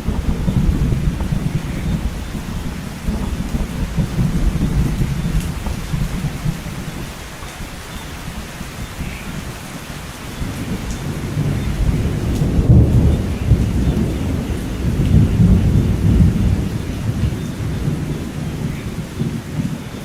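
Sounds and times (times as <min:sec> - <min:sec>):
rolling thunder: 0:00.0 - 0:07.8, 0:10.3 - 0:20.0
heavy rain: 0:00.0 - 0:20.0.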